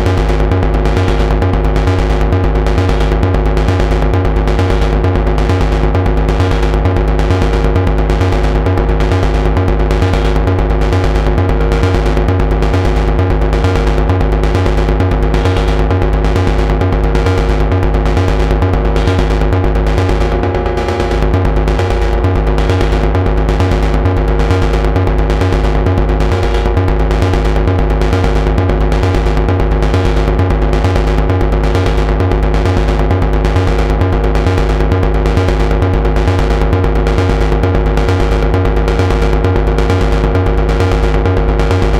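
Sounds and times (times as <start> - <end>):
synthesizer sequenced pulses: 0.0 - 41.9.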